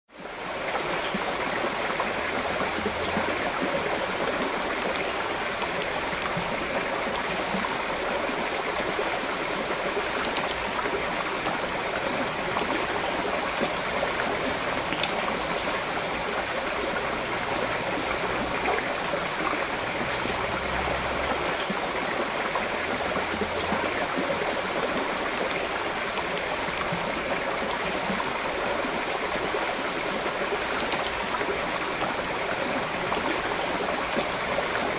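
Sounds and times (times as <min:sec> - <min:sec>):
stream water flowing: 0:00.1 - 0:34.9.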